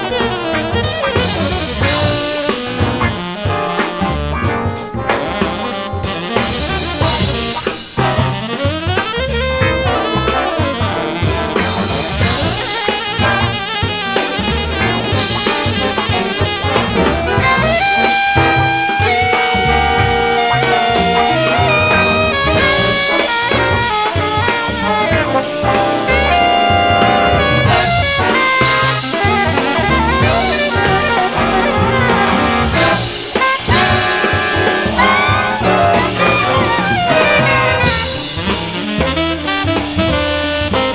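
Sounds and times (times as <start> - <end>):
big-band jazz: 0.0 - 40.9.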